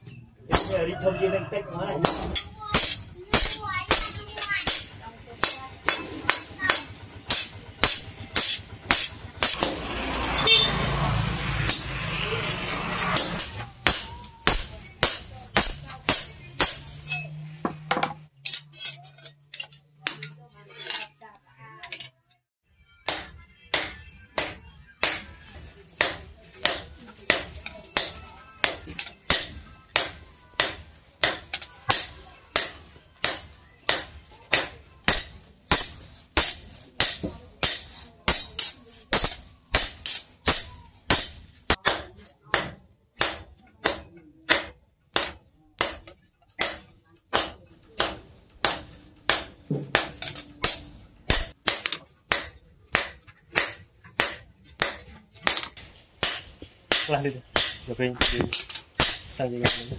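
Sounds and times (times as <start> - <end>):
hammer striking blade on anvil: 2.0 - 10.8, 11.6 - 12.0, 12.8 - 21.2, 23.0 - 59.9.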